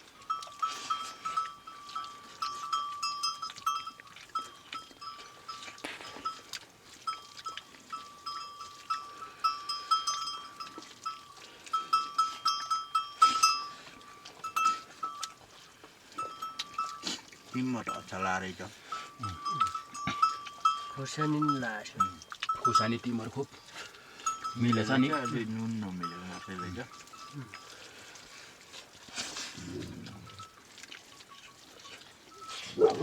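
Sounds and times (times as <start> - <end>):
sheep bells ringing: 0.0 - 28.2, 30.2 - 33.0.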